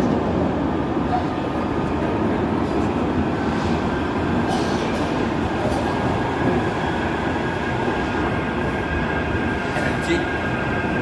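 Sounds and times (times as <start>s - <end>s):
tram running: 0.0s - 11.0s.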